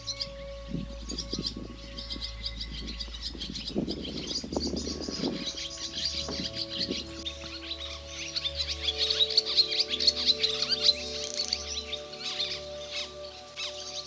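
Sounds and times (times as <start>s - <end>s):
soft background music: 0.0s - 14.0s
songbirds calling: 0.0s - 14.0s.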